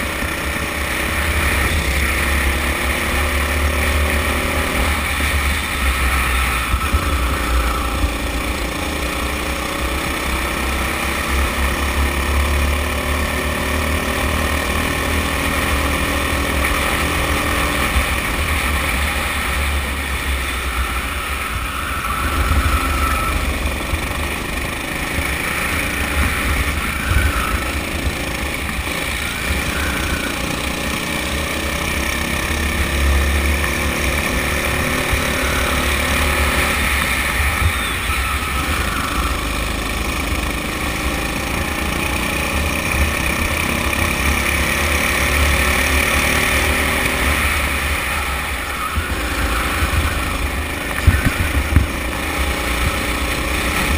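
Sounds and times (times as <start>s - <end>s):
go-kart engine revving: 0.0s - 53.9s.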